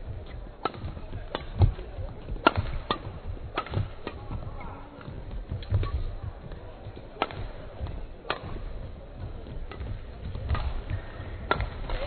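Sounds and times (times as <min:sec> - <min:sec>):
low hall rumble: 0:00.0 - 0:12.0
rackets hitting shuttlecock: 0:00.1 - 0:12.0.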